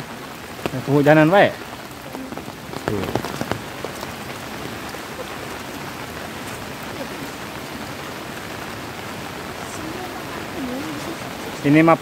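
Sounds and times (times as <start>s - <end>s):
faint raindrop patter: 0.0s - 12.0s
steady rain hiss: 0.0s - 12.0s.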